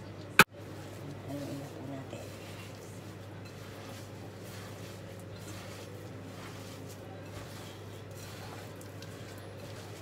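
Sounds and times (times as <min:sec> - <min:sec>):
hands squishing raw meat: 0:00.8 - 0:10.0.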